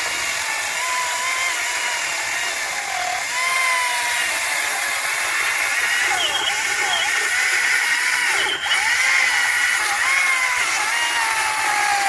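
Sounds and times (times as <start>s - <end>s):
electric chainsaw cutting wood: 0.0s - 12.0s.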